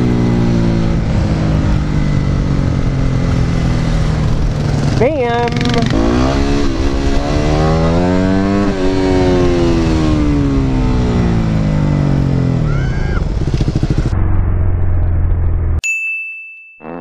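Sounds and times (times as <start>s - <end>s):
motorcycle engine revving: 0.0s - 15.8s
wind and road noise: 0.0s - 15.8s.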